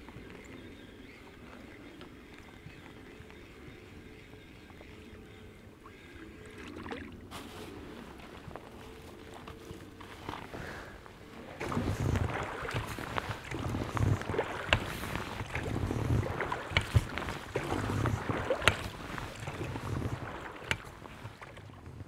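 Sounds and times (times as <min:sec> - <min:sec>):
oars rowing with water swirl: 0:00.0 - 0:22.0.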